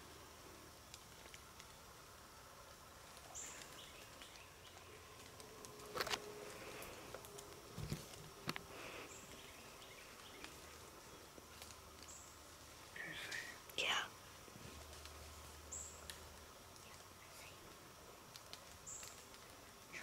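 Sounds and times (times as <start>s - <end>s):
insect buzzing faintly: 0.0s - 20.0s.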